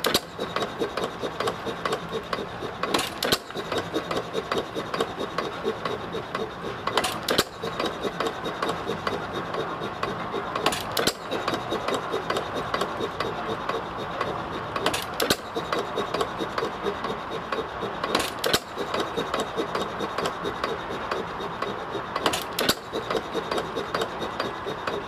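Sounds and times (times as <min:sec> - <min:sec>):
engine and gearing clatter: 0:00.0 - 0:25.0
stationary gas engine banging: 0:00.0 - 0:25.0.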